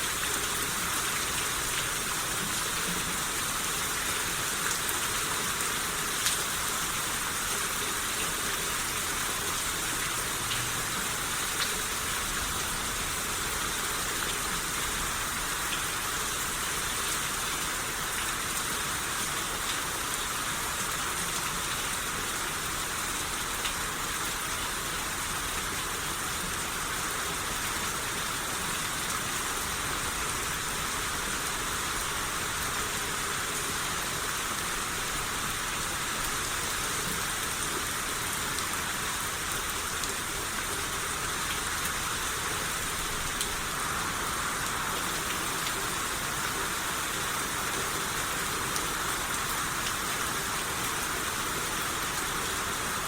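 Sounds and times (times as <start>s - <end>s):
steady rain shower: 0.0s - 53.0s.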